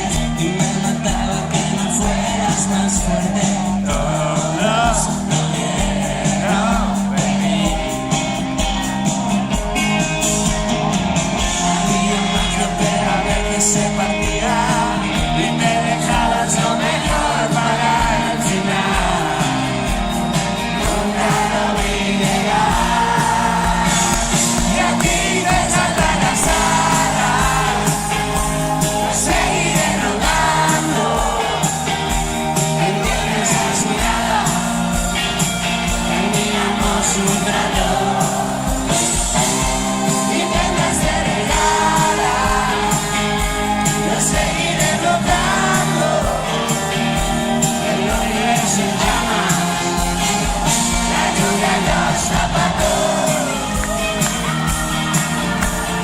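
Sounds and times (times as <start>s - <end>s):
live pop-rock band: 0.0s - 56.0s
man singing: 0.0s - 56.0s.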